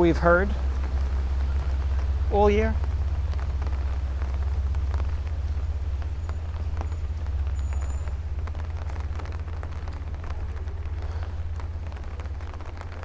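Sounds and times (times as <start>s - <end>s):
deep rumble: 0.0s - 13.0s
rain hiss: 0.0s - 13.0s
raindrops ticking: 0.0s - 13.0s.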